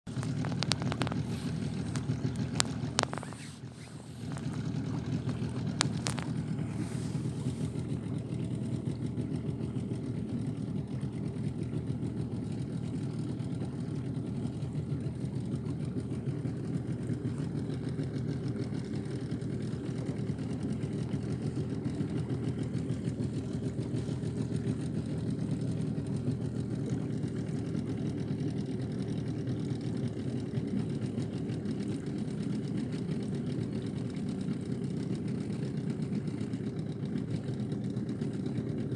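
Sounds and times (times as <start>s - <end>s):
outboard motor droning: 0.1s - 38.9s.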